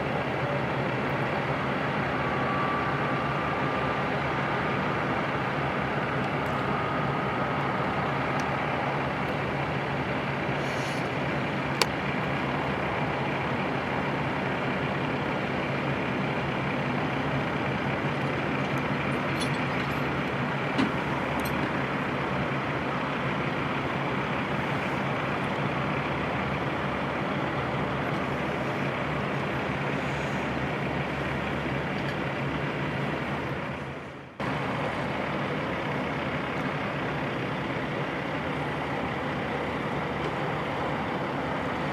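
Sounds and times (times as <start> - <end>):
diesel truck engines running: 0.0 - 41.9.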